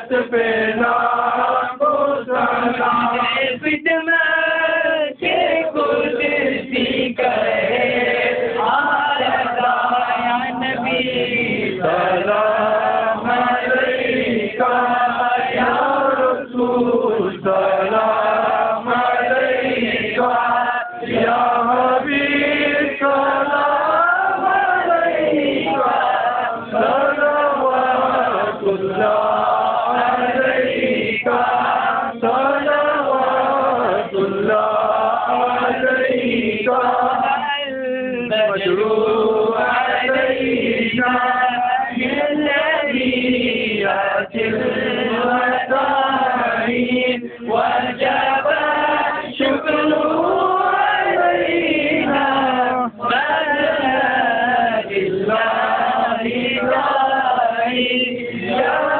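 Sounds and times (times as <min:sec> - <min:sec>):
men chanting in unison: 0:00.0 - 0:58.9.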